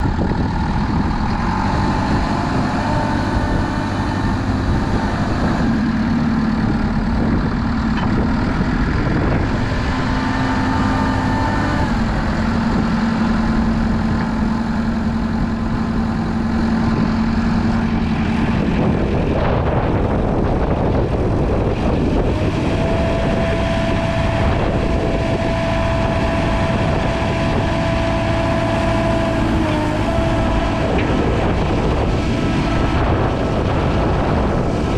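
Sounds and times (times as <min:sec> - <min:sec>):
diesel engine running: 0:00.0 - 0:34.9
whining tones shifting pitch: 0:00.5 - 0:34.9.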